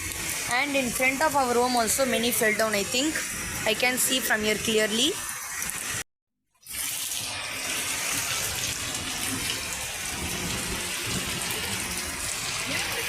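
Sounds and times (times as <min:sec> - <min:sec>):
heavy rain pouring: 0:00.0 - 0:06.0, 0:06.9 - 0:13.0.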